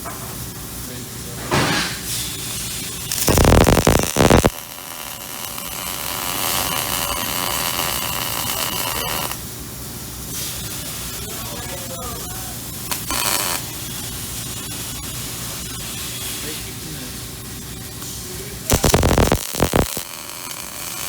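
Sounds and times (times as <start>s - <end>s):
welding arc crackling hiss: 0.0s - 21.0s.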